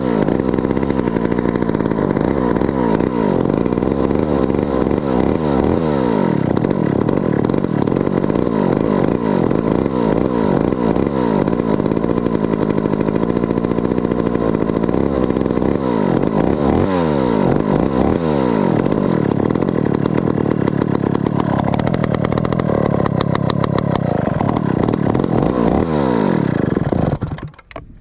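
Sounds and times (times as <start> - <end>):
chainsaw engine revving: 0.0 - 27.8.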